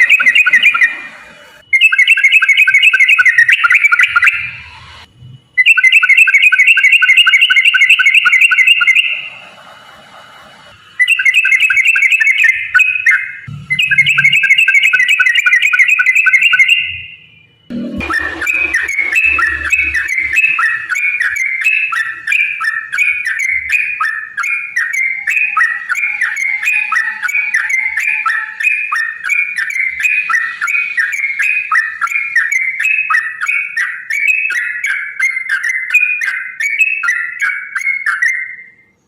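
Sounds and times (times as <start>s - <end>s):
bulbul singing rapid chattering song: 0.0s - 4.7s, 5.6s - 9.4s, 10.9s - 38.8s.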